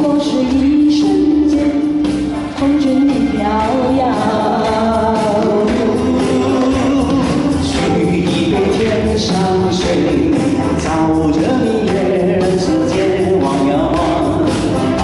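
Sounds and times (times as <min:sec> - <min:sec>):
instrumental accompaniment: 0:00.0 - 0:15.0
person singing: 0:00.0 - 0:15.0.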